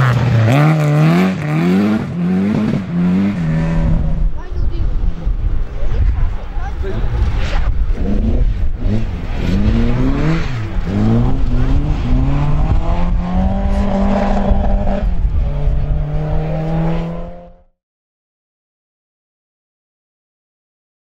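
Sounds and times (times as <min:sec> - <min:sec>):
rally car engine accelerating: 0:00.0 - 0:04.4, 0:05.2 - 0:17.7.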